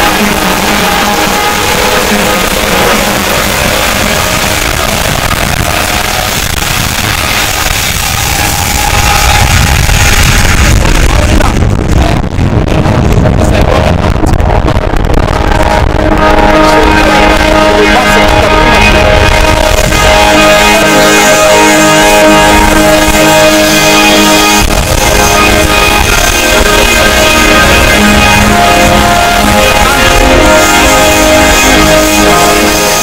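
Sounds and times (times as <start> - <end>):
heavy bass: 0.0 - 33.0
loud guitar music: 0.0 - 33.0.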